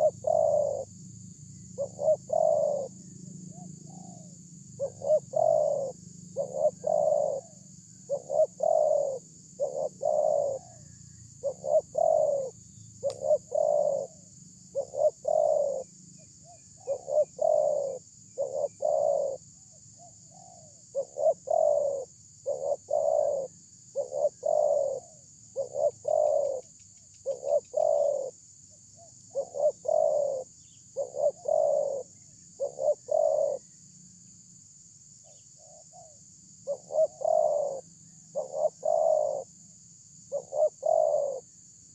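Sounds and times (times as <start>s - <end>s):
dove cooing: 0.0s - 0.9s, 1.8s - 28.4s, 29.0s - 33.7s, 35.2s - 39.6s, 40.3s - 41.6s.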